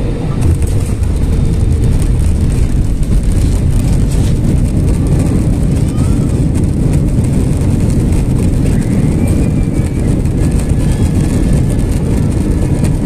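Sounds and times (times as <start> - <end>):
jet engine cabin rumble: 0.0 - 13.0.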